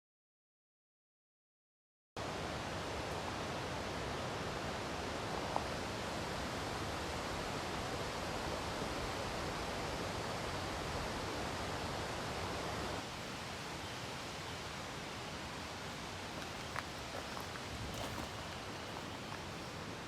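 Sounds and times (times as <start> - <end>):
mountain stream rushing: 2.2 - 20.0.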